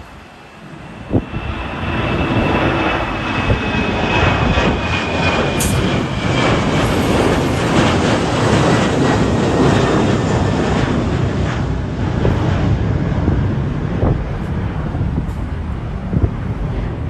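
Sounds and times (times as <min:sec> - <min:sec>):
high engine whine: 0:00.0 - 0:17.0
jet engine rumble: 0:00.0 - 0:17.0
wind buffeting microphone: 0:00.0 - 0:17.0.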